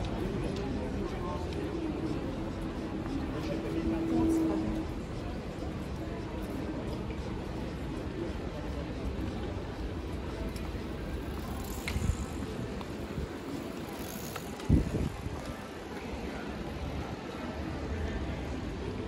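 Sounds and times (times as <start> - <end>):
cyclists passing: 0.0 - 19.0
traffic rumble: 0.0 - 19.0.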